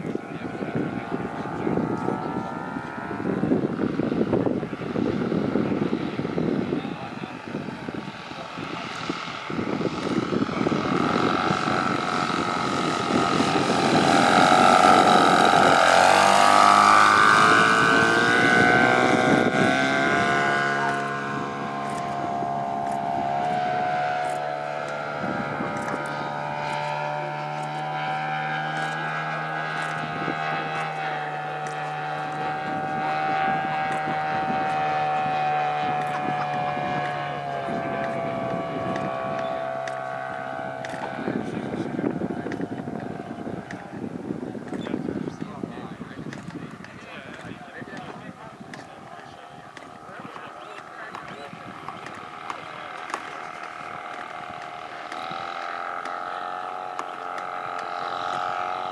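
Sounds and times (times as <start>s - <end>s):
model airplane engine drone: 0.0s - 58.9s.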